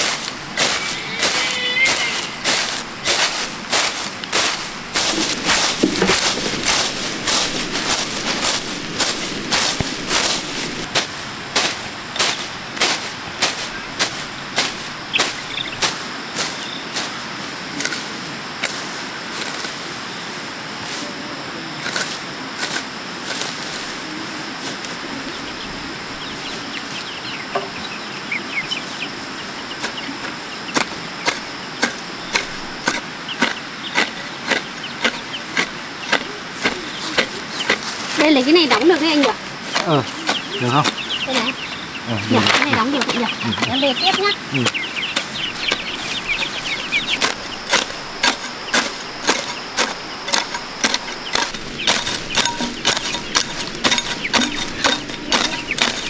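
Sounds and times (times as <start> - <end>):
chicks peeping: 0.0 - 11.0, 11.6 - 17.0, 24.6 - 56.0.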